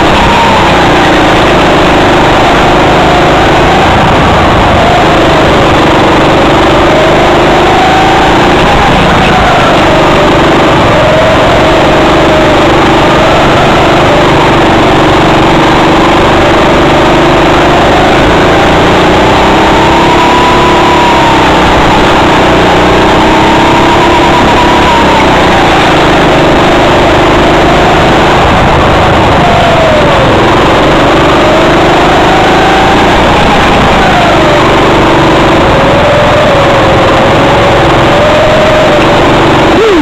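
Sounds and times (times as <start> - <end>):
go-kart engine running: 0.0 - 40.0.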